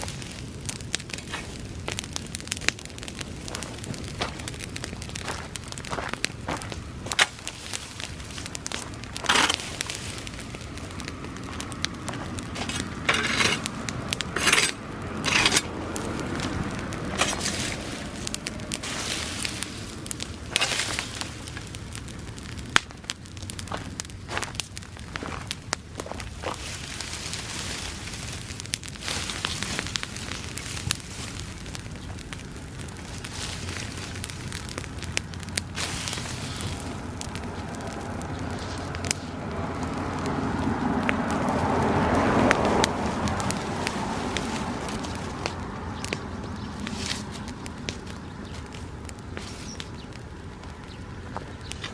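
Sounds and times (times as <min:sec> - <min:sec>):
flames rushing: 0:00.0 - 0:51.9
grass fire crackling and popping: 0:00.0 - 0:51.9.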